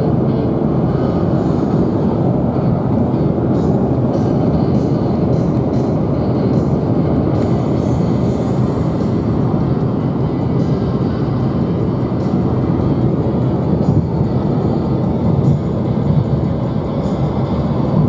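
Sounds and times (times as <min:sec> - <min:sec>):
vehicle road noise rumble: 0:00.0 - 0:18.0.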